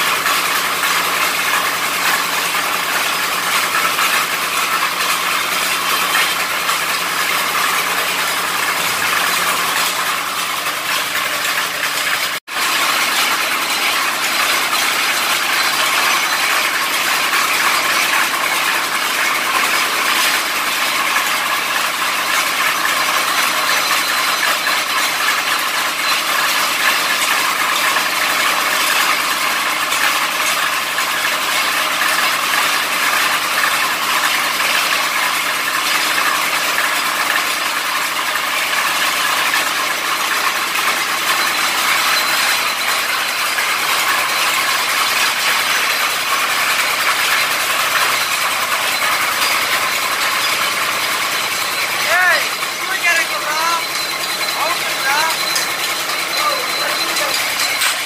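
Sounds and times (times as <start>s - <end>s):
drilling rig running: 0.0s - 58.0s.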